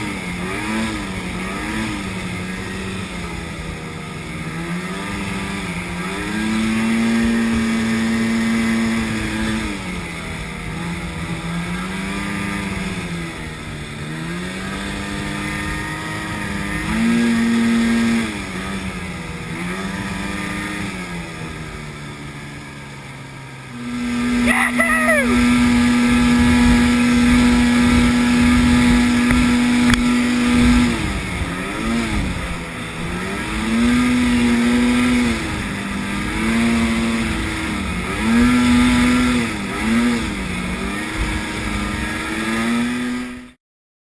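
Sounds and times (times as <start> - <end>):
snowmobile engine revving: 0.0 - 43.6.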